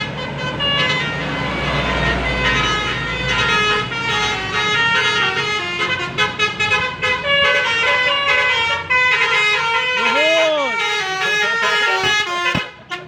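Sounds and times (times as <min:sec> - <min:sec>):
bus engine rumble: 0:00.0 - 0:13.0
bus horn playing a tune: 0:00.0 - 0:13.0.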